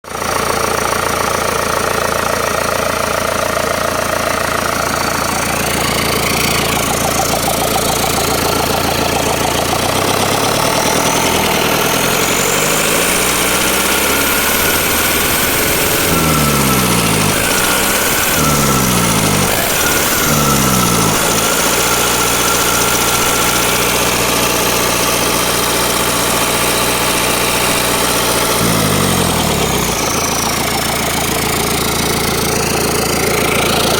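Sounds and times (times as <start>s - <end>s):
diesel engine revving: 0.2s - 33.9s.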